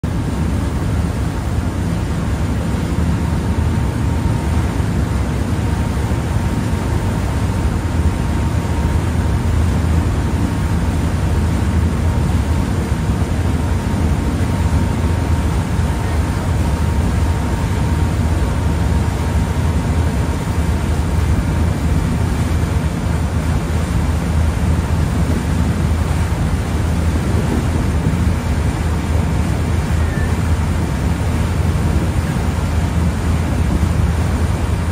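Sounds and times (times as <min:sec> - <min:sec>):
ferry engine drone: 0:00.0 - 0:34.9
water rushing along hull: 0:00.0 - 0:34.9
faint steady whine: 0:00.1 - 0:34.9.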